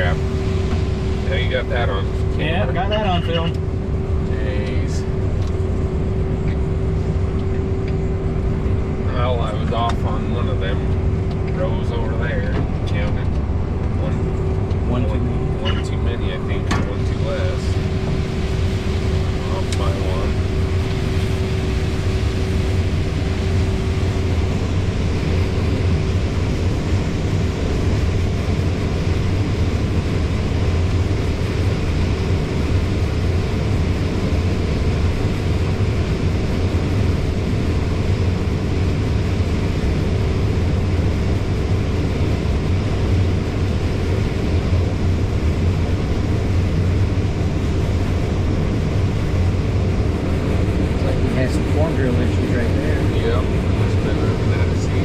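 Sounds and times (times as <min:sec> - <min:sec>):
combine harvester drone: 0:00.0 - 0:55.0
constant hum: 0:00.0 - 0:55.0.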